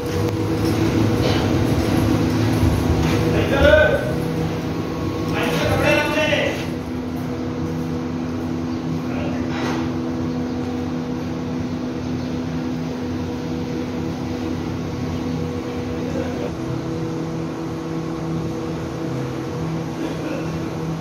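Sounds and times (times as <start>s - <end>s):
constant low hums: 0.0s - 21.0s
factory machinery droning: 0.0s - 21.0s.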